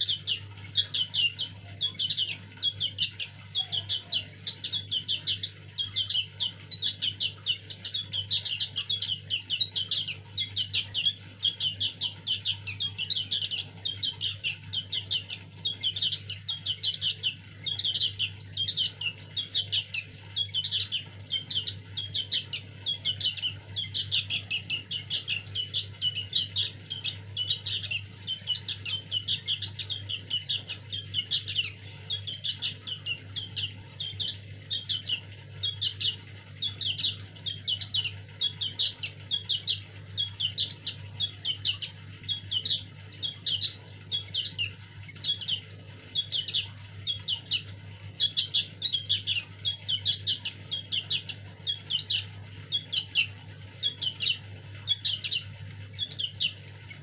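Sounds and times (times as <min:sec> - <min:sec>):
chicks chirping: 0:00.0 - 0:57.0.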